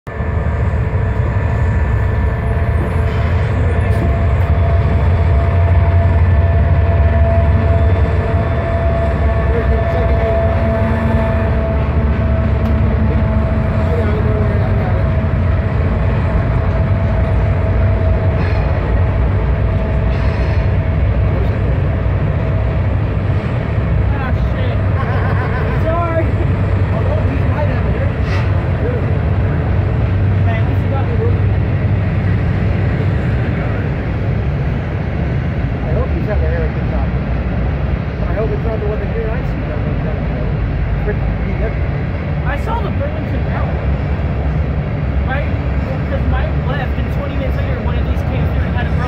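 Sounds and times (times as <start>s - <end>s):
locomotive engine rumble: 0.1s - 49.0s
rolling freight cars: 0.1s - 49.0s.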